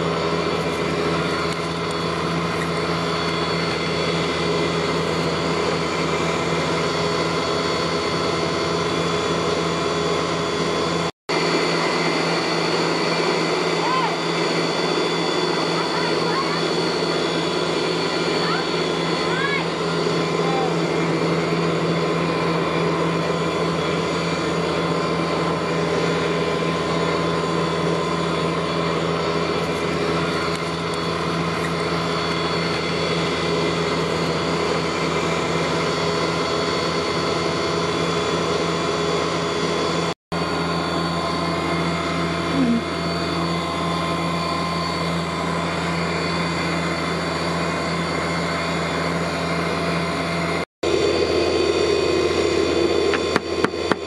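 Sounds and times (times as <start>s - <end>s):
mechanical drone: 0.0s - 54.0s.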